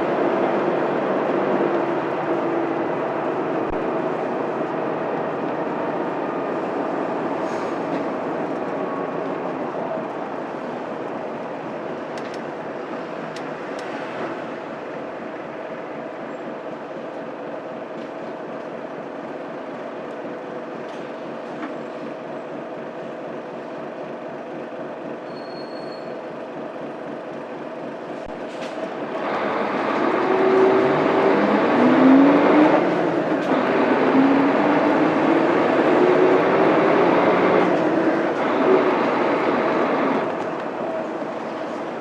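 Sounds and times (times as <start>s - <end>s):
bus diesel engine accelerating: 0.0s - 42.0s.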